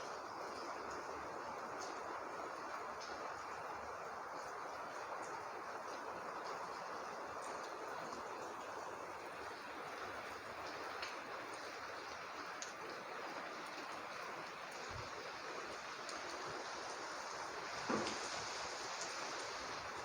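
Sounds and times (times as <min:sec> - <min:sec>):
rain falling: 0:00.0 - 0:20.0
water dripping: 0:00.1 - 0:20.0.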